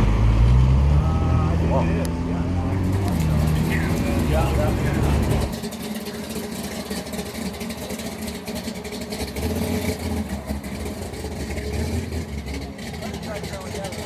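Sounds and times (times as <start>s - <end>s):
car engine idling: 0.7s - 14.0s.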